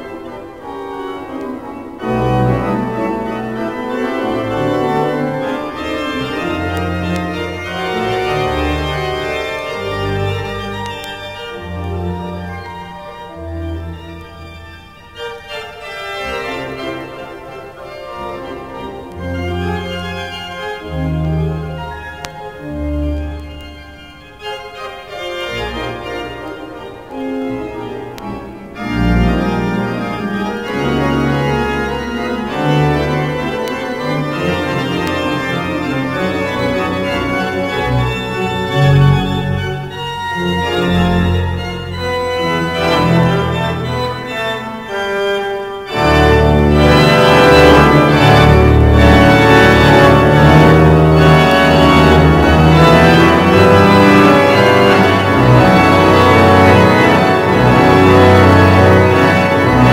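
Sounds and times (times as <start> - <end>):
pipe organ playing chords: 0.0 - 59.9.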